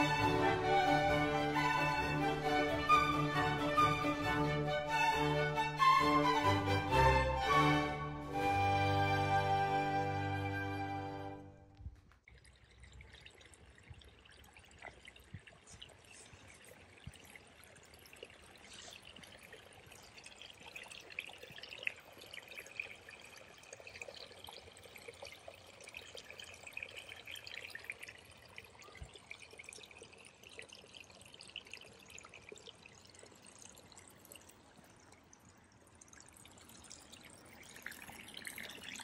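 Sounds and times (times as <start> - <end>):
creek trickling over stones: 0.0 - 6.0, 12.2 - 39.0.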